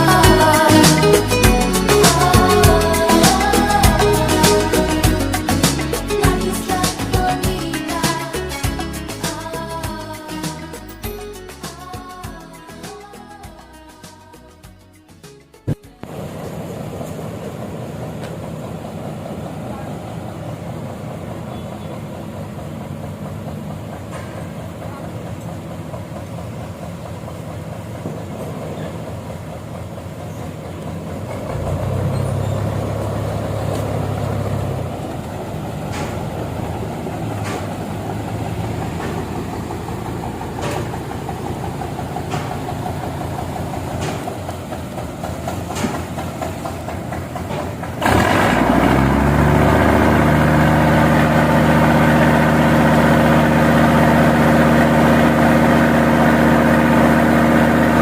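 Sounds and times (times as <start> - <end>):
heavy engine running: 0.0 - 58.0.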